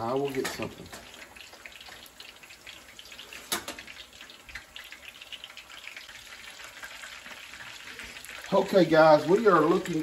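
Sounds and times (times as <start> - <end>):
fish deep-frying in hot oil: 0.0 - 10.0.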